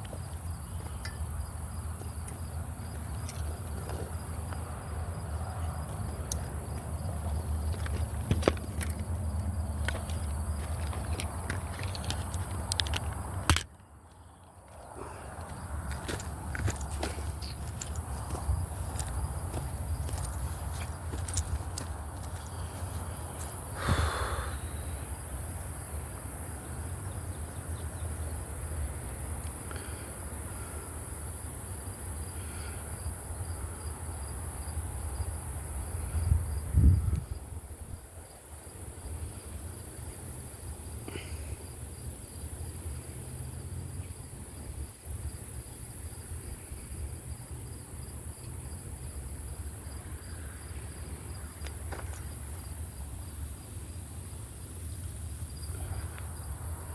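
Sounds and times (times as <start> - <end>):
insects chirping: 0.0 - 56.9.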